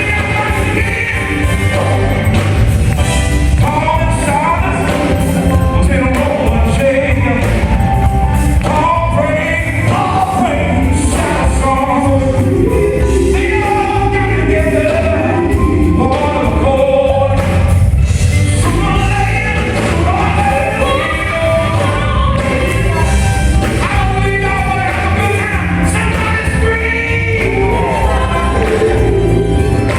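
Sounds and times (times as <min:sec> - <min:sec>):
gospel choir singing: 0:00.0 - 0:29.9
heavy bass line: 0:00.0 - 0:29.9.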